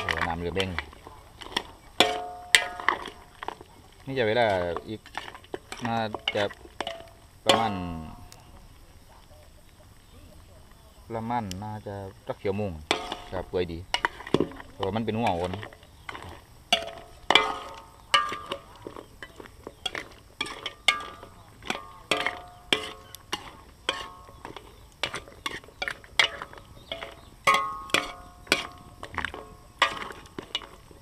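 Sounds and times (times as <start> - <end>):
metal ladle scraping a wok: 0.0 - 8.4, 12.8 - 31.0.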